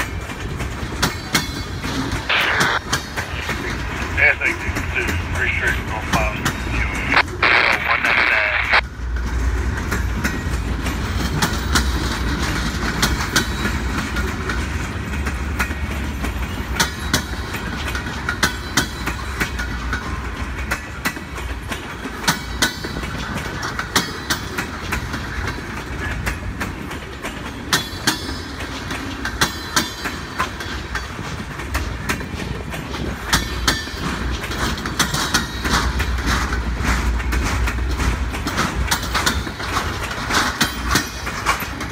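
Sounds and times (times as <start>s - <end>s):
train wheels clacking over rail joints: 0.0s - 7.3s, 8.8s - 41.9s
train rolling low rumble: 0.0s - 41.9s.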